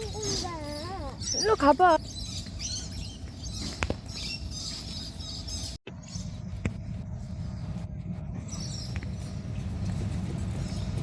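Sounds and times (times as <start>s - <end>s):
wind rumbling on microphone: 2.0s - 11.0s.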